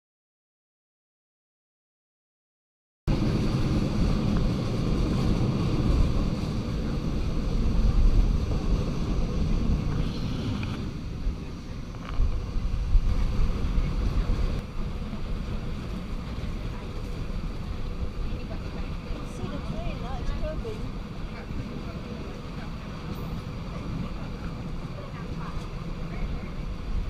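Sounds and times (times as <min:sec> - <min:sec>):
train coaches rumbling: 0:03.1 - 0:27.0
wind buffeting microphone: 0:03.1 - 0:27.0.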